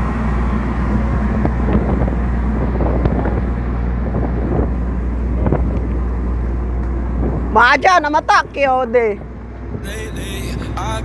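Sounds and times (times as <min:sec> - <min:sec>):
wind noise on microphone: 0:00.0 - 0:10.7
boat engine hum: 0:00.0 - 0:11.0.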